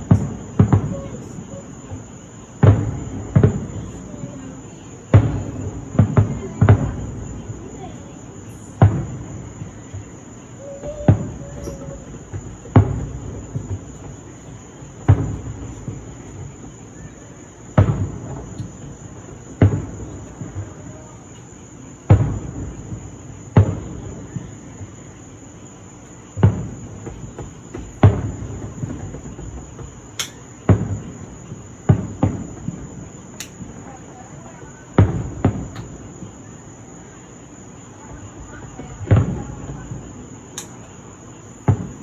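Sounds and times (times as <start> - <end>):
crickets trilling: 0.0 - 42.0
fireworks booming: 0.0 - 42.0.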